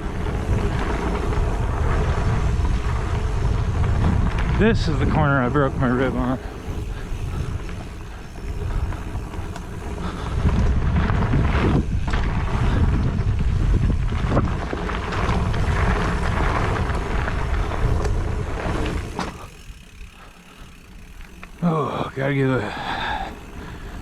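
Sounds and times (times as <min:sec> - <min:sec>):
wind rushing over microphone: 0:00.0 - 0:20.0
bike rattle: 0:00.0 - 0:24.0.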